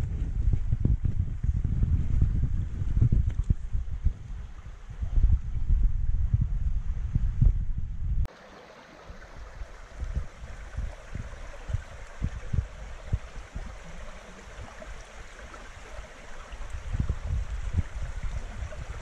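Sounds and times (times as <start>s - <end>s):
small creek running: 0.0s - 19.0s.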